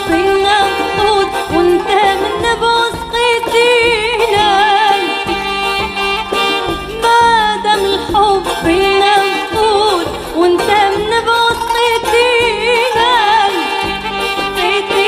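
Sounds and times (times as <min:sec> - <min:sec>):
band playing: 0:00.0 - 0:15.0
hand drums beating: 0:00.0 - 0:15.0
woman singing into a microphone: 0:00.0 - 0:15.0.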